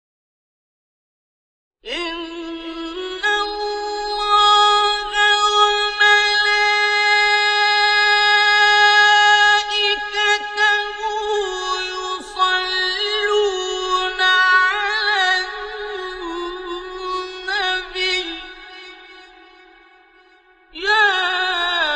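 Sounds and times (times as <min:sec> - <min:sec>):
person chanting: 0:01.9 - 0:19.4, 0:20.8 - 0:21.9.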